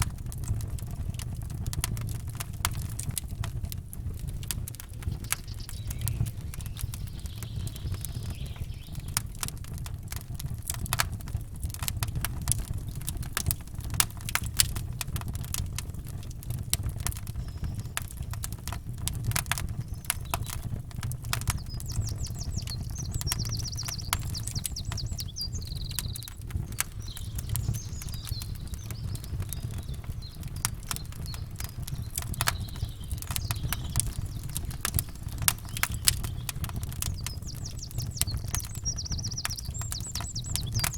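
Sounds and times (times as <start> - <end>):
campfire crackling and popping: 0.0 - 40.9
small birds chirping: 0.4 - 14.0, 15.4 - 40.9.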